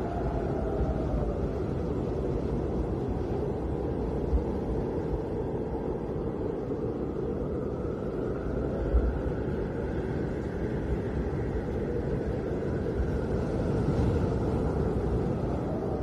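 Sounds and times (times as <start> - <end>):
high wind whistle: 0.0 - 16.0
snowstorm wind roaring: 0.0 - 16.0.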